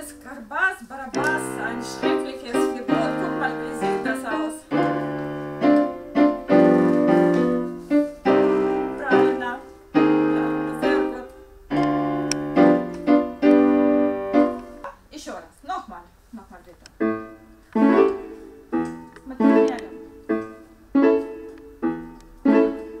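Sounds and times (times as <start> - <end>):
electronic keyboard piano chords: 1.1 - 15.0, 16.9 - 23.0.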